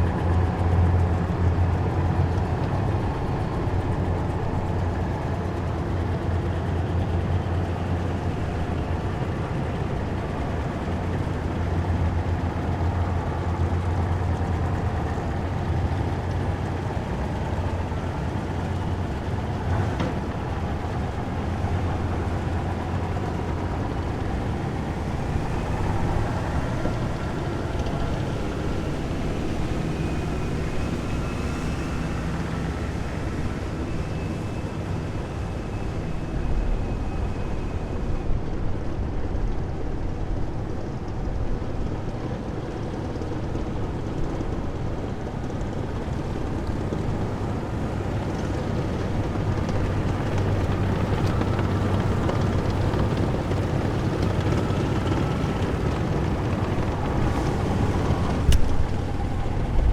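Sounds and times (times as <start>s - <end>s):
heavy vehicle engines humming: 0.0s - 59.9s.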